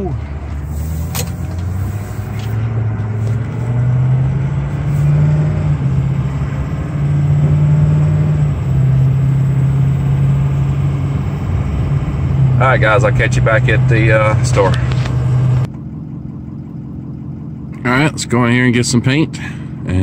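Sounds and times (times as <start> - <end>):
truck engine accelerating: 0.0 - 20.0.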